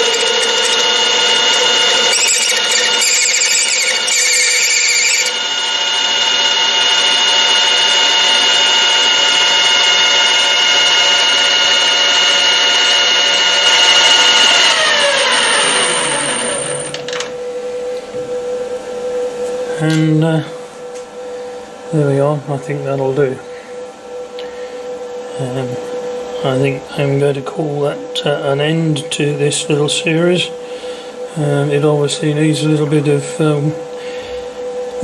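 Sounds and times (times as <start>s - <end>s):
lathe spinning down: 0.0s - 24.2s, 24.9s - 35.0s
metal lathe whining: 0.0s - 35.0s.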